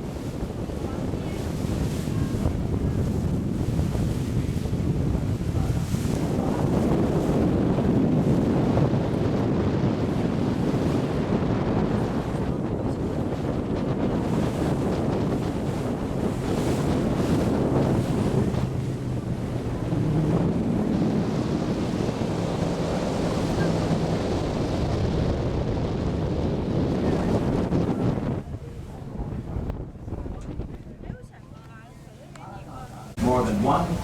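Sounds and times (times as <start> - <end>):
rushing water: 0.0 - 29.5, 32.2 - 34.0
wind buffeting microphone: 0.0 - 34.0.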